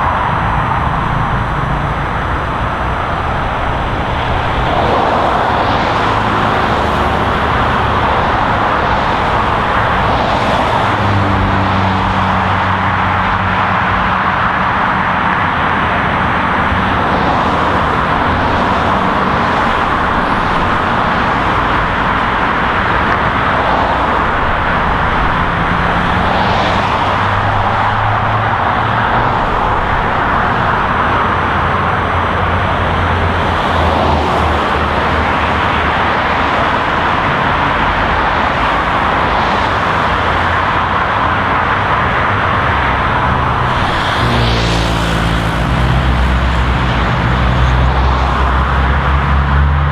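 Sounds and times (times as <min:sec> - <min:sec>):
highway traffic roar: 0:00.0 - 0:49.9
vehicles passing by: 0:00.0 - 0:49.9.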